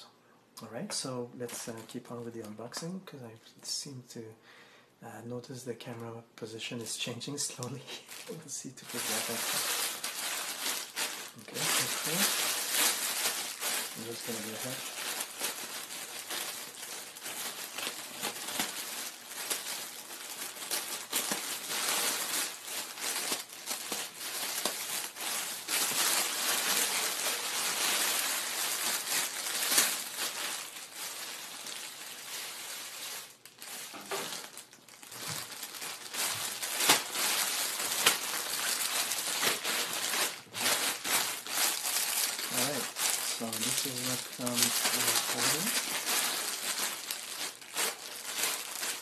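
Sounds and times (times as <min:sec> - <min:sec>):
packaging crinkling and tearing: 0:06.8 - 0:49.0.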